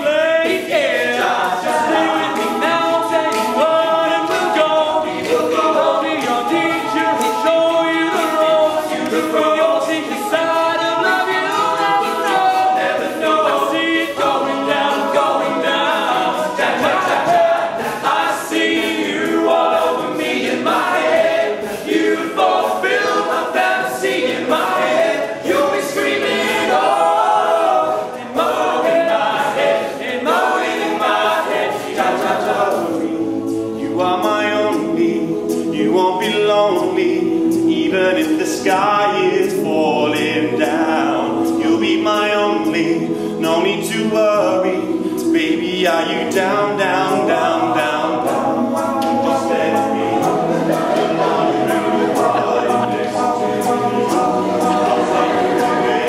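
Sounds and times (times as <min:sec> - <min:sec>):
crisp beat clicks: 0:00.0 - 0:56.0
male a cappella group singing: 0:00.0 - 0:56.0.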